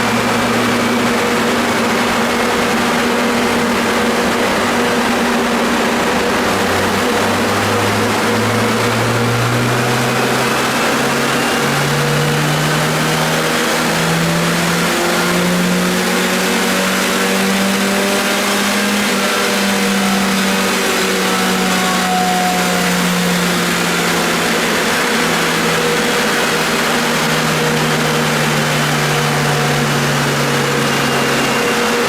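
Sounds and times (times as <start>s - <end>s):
car engine revving on dynamometer: 0.0s - 32.0s
loud steady rushing noise: 0.0s - 32.0s.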